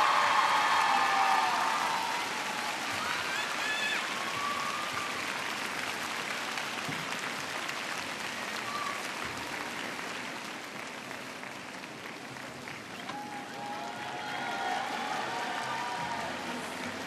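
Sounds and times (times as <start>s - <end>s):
arena crowd applauding: 0.0s - 17.0s.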